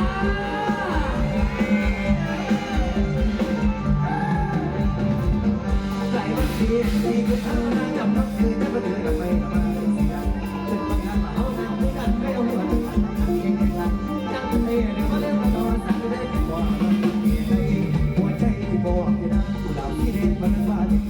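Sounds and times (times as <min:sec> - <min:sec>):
live band music: 0:00.0 - 0:21.0.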